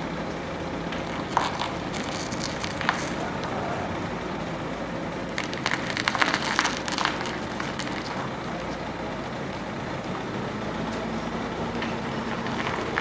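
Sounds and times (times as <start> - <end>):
clattering clicks and knocks: 0.0 - 13.0
traffic hum: 0.0 - 13.0.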